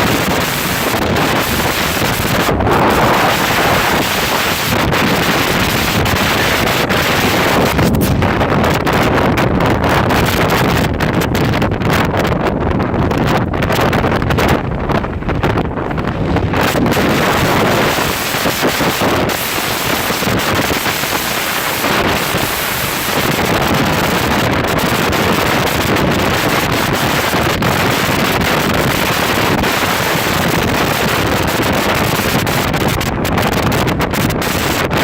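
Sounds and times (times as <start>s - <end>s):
strong wind blasting microphone: 0.0s - 35.0s.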